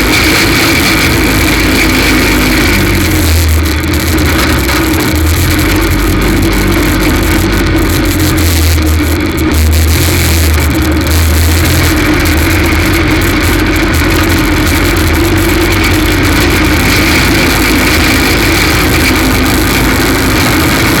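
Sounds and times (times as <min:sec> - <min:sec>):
stock car engine misfiring: 0:00.0 - 0:21.0.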